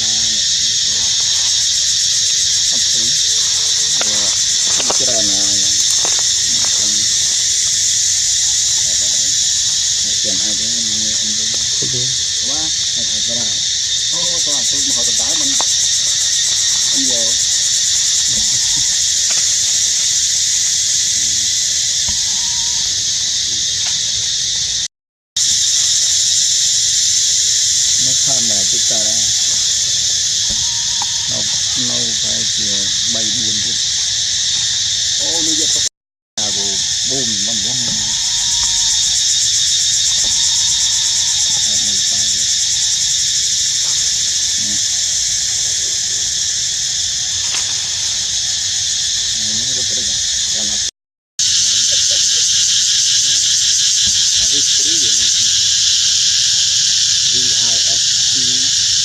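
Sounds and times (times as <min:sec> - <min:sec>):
forest insect chorus: 0:00.0 - 0:59.0.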